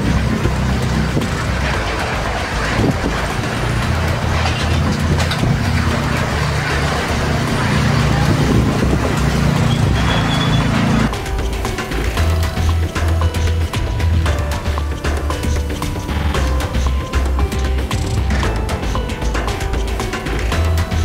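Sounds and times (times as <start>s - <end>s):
wind gusting on microphone: 0.0s - 21.0s.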